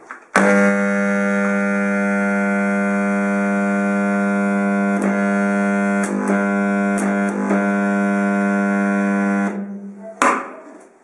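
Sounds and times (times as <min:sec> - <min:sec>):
welding transformer humming: 0:00.3 - 0:09.8.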